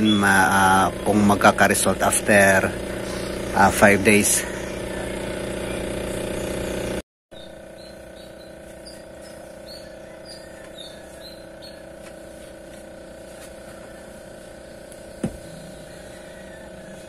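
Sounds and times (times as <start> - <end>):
aquarium air pumps humming: 0.0 - 17.0
loud steady hum: 0.0 - 17.0.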